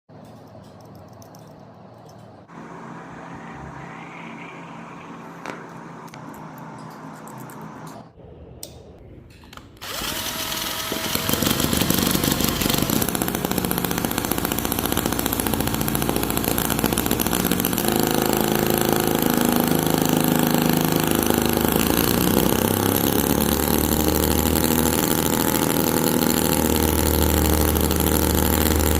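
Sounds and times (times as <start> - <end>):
small petrol engine buzzing whine: 2.5 - 8.2, 9.8 - 28.9.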